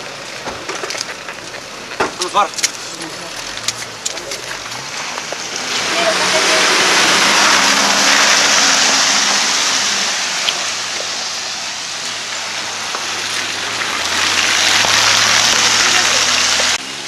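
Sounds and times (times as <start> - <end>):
rain on a wet street: 0.0 - 17.0.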